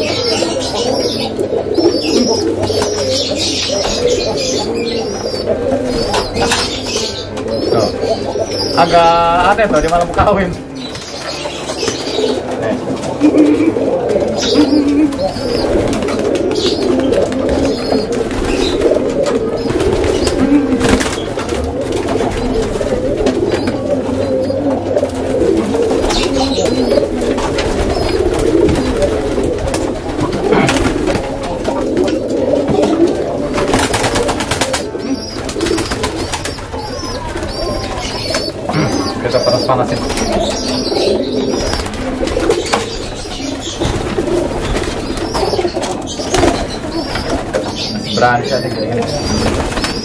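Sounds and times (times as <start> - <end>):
pigeons cooing: 0.0 - 50.0
wings flapping: 8.7 - 50.0.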